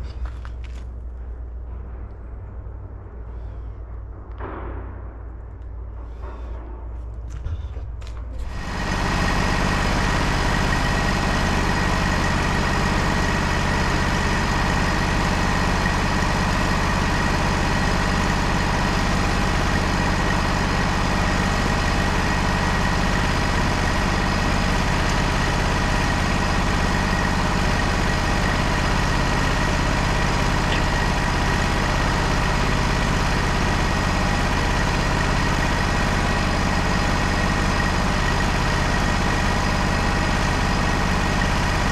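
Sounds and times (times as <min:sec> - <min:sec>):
sawmill engine running: 0:00.0 - 0:04.6, 0:05.4 - 0:41.9.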